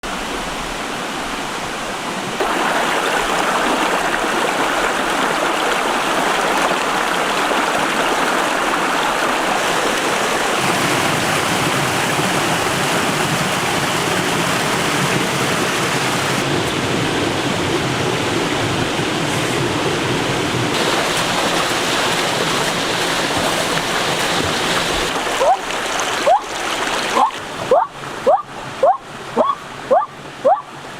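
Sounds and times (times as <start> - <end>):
stream and waterfall rushing: 0.0 - 30.9.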